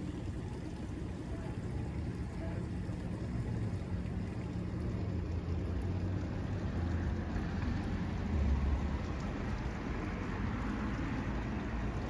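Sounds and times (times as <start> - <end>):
water gushing from hydrant: 0.0 - 12.0.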